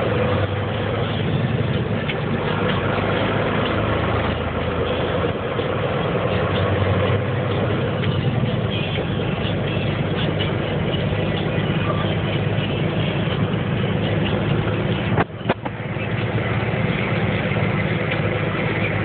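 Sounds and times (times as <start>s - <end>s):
engine and road drone: 0.0s - 19.0s.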